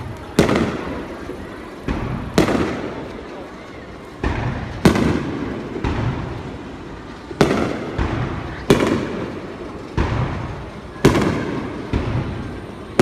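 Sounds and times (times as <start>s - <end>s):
firework shells booming: 0.0s - 3.4s, 4.1s - 13.0s.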